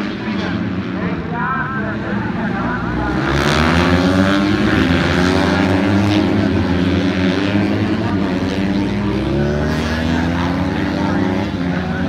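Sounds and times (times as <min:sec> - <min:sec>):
racing motorcycle engines revving: 0:00.0 - 0:12.0.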